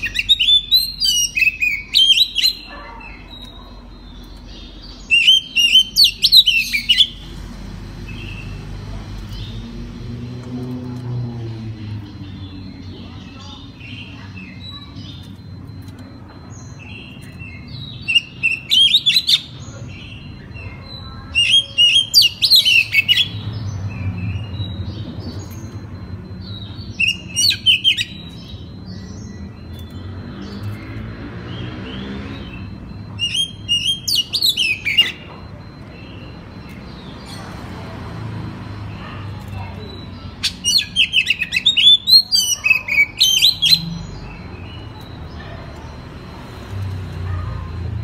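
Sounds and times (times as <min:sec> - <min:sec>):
bird chirping song: 0:00.0 - 0:48.0.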